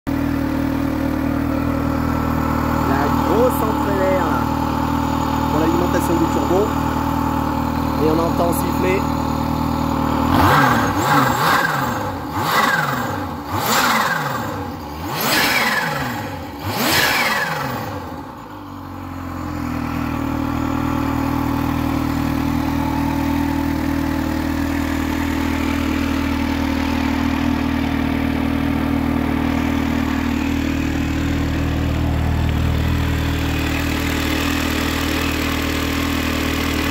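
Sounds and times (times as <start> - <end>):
motorcycle engine idling: 0.1 - 36.9
motorcycle engine revving: 0.1 - 36.9.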